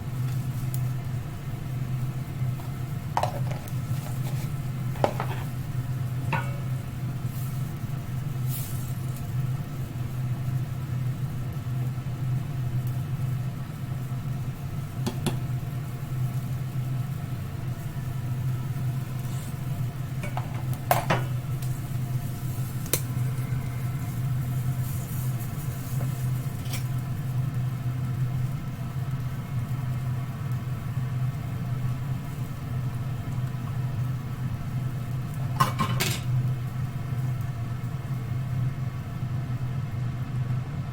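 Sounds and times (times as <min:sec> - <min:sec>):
kitchen exhaust fan humming: 0:00.0 - 0:40.9.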